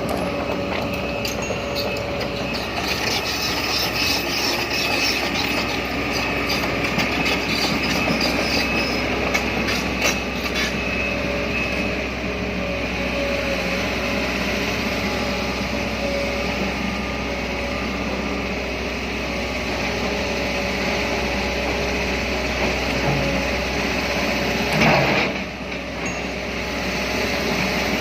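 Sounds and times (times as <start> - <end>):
excavator engine drone: 0.0 - 28.0.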